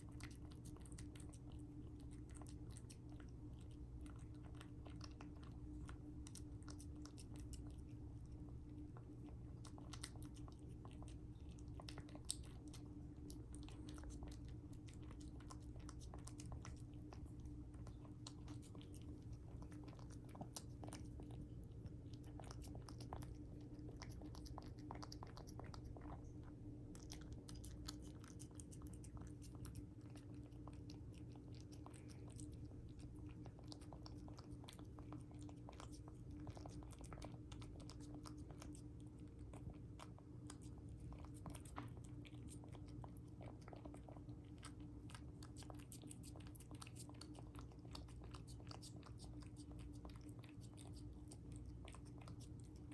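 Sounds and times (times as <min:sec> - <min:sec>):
cat chewing food: 0:00.0 - 0:52.9
steady low hum: 0:00.0 - 0:52.9.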